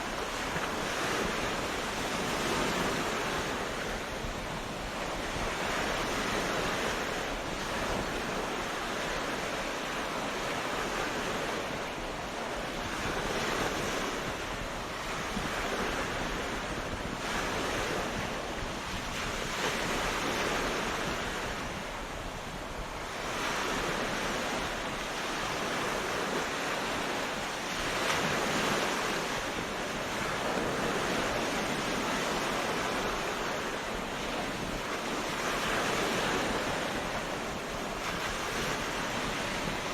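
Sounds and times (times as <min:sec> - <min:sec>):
sea waves washing onto beach: 0:00.0 - 0:39.9.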